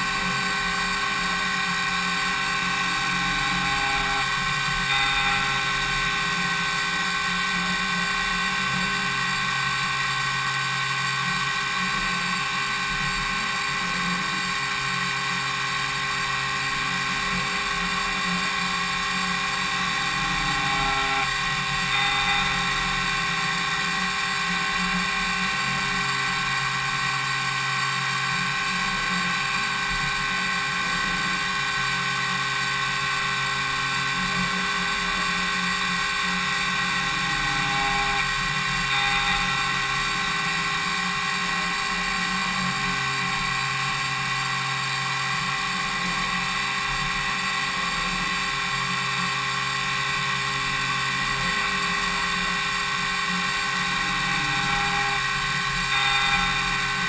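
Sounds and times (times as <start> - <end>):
cutting noise: 0.0 - 11.8, 14.6 - 35.0, 35.6 - 49.1, 49.8 - 57.0
milling machine whine: 0.0 - 57.0.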